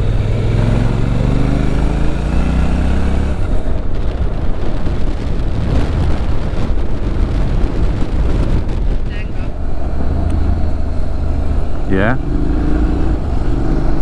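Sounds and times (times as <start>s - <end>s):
motorcycle engine accelerating: 0.0s - 14.0s
wind and road rush: 0.0s - 14.0s.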